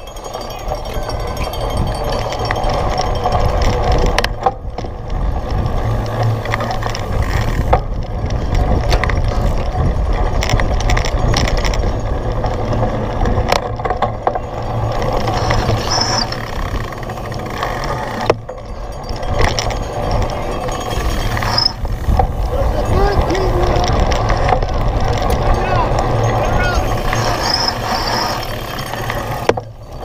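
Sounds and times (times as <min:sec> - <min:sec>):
wind and tyres rumbling: 0:00.0 - 0:30.0
bike rattling knocks: 0:01.0 - 0:30.0.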